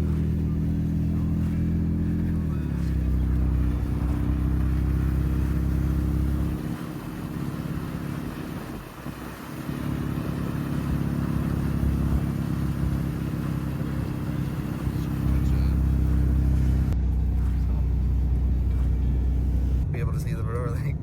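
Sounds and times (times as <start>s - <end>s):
car engine running: 0.0s - 21.0s
tyre and road noise: 0.0s - 21.0s.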